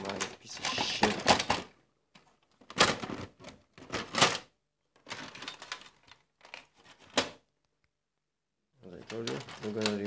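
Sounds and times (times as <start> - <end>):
plastic casing clacking and rattling: 0.0 - 7.4, 8.9 - 10.0.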